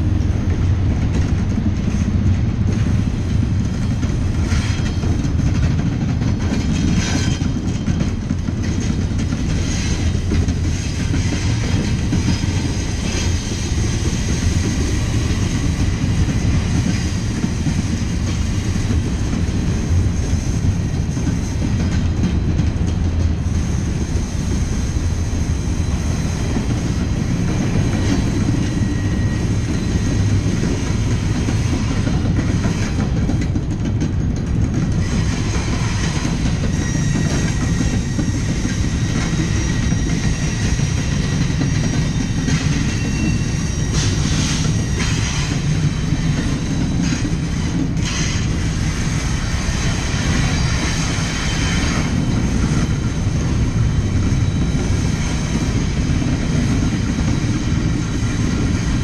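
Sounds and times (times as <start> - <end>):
train wheels rumbling on rail: 0.0 - 59.0
wheels clicking over rail joints: 0.0 - 59.0.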